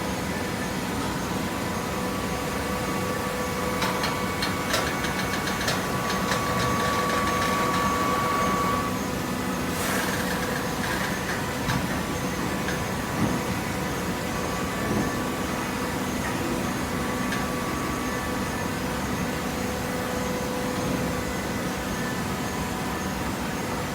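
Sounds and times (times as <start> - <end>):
motor and pump hum: 0.0 - 23.9.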